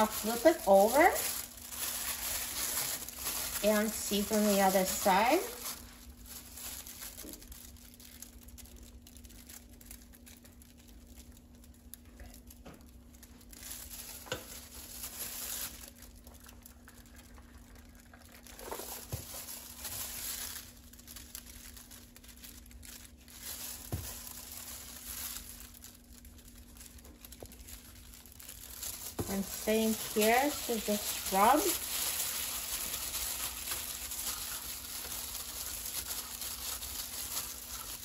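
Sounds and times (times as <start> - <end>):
plastic gloves crinkling: 0.0 - 38.0.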